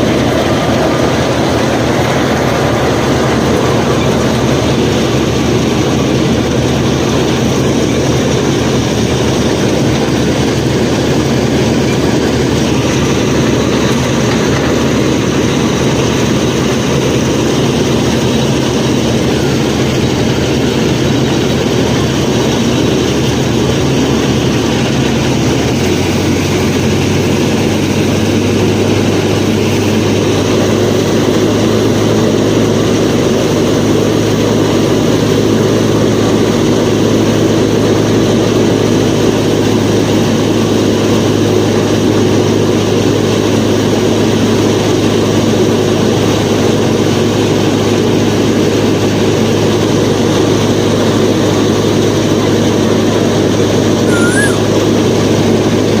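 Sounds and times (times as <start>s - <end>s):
threshing machinery running: 0.0s - 45.2s.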